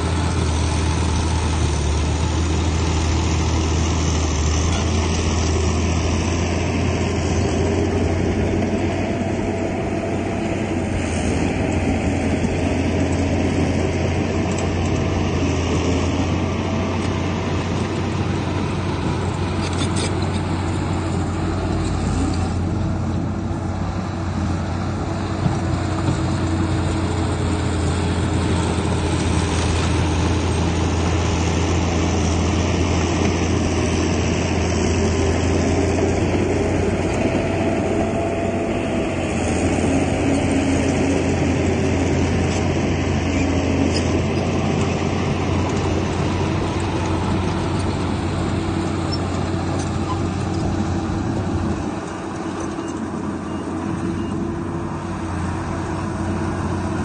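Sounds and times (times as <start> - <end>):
diesel earthmoving machinery droning: 0.0 - 57.0.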